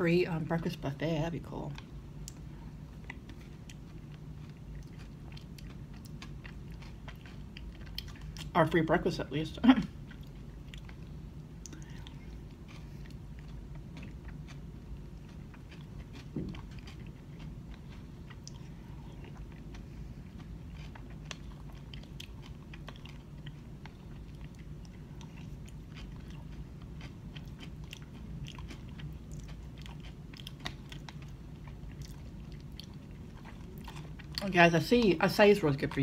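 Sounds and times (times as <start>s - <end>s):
low room hum: 0.0s - 36.0s
close-up chewing: 0.6s - 8.8s, 9.8s - 36.0s.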